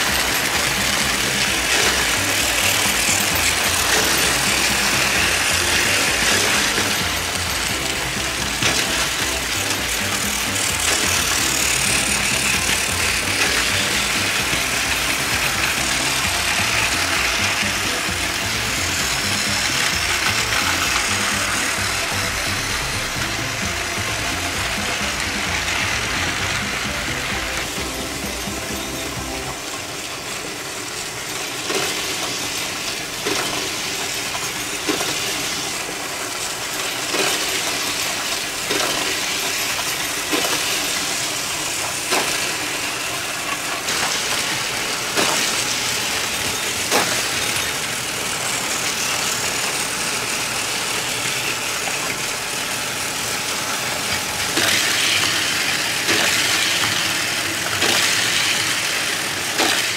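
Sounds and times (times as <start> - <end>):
sharp clicks of toy track: 0.0 - 59.9
toy train motor whir: 0.0 - 59.9.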